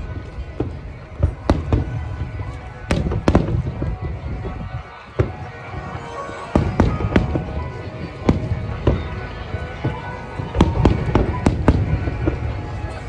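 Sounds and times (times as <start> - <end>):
fireworks bursting: 0.0 - 13.0
music: 0.0 - 13.0.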